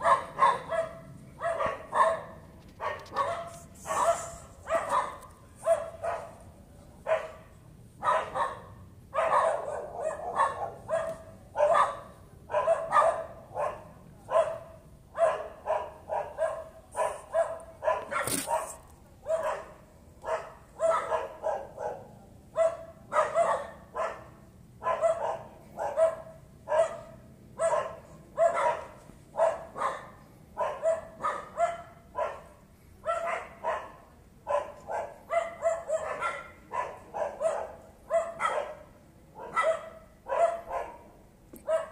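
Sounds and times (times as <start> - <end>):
dog barking: 0.0 - 6.4, 7.0 - 41.9.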